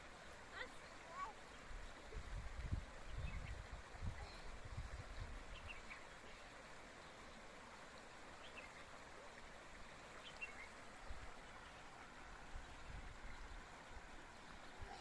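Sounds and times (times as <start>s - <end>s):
flowing spring water: 0.0s - 15.0s.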